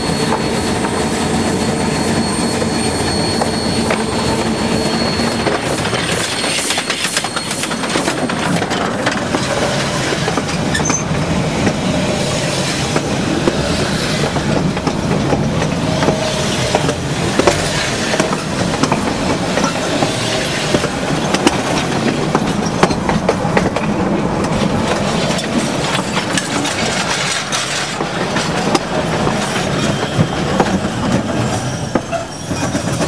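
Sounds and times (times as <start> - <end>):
railroad cars rumbling overhead: 0.0 - 33.0
steel wheels clicking on rails: 0.0 - 33.0.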